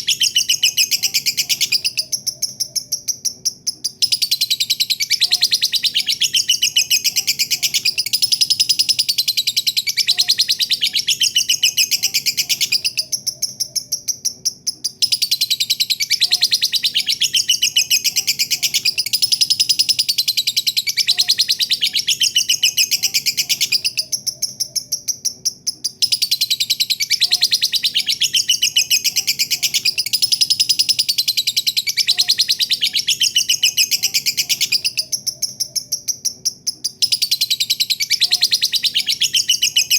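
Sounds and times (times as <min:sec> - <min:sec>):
lovebird chattering chirps: 0:00.0 - 0:39.9.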